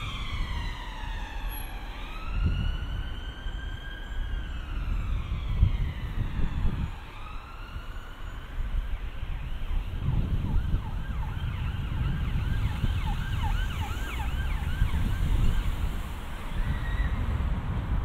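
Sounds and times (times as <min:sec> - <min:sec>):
emergency vehicle siren: 0:00.0 - 0:18.0.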